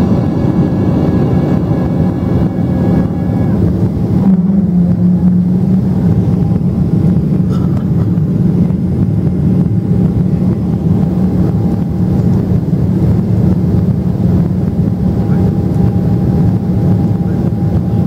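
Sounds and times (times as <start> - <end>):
airplane cabin drone: 0.0 - 18.0
faint jet engine whine: 0.0 - 18.0.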